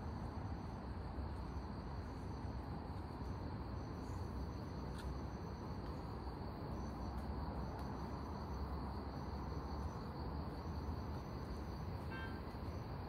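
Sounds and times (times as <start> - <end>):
higher insect trill: 0.0 - 13.0
insects chirring: 0.0 - 13.0.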